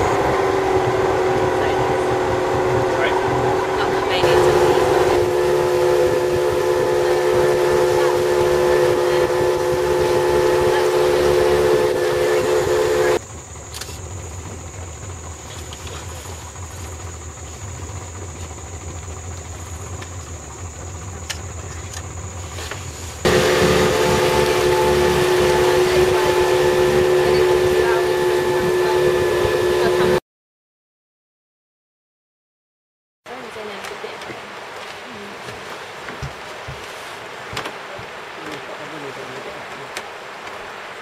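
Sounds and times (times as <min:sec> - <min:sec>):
outboard motor drone: 0:00.0 - 0:30.2, 0:33.3 - 0:41.0.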